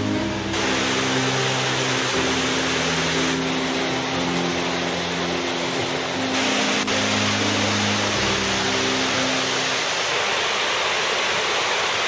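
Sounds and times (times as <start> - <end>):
slow background music: 0.0 - 10.0
waterfall roaring: 0.0 - 12.0.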